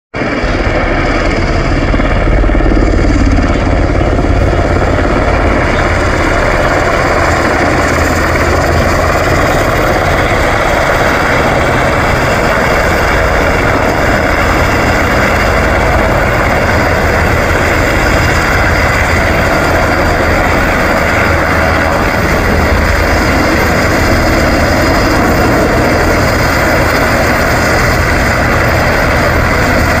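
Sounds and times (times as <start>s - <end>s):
helicopter hovering: 0.2s - 30.0s.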